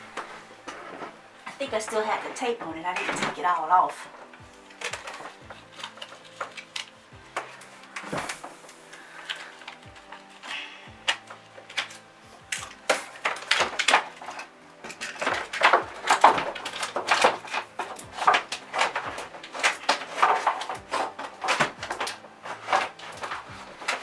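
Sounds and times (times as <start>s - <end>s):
tape peeling off plastic: 4.2s - 24.0s.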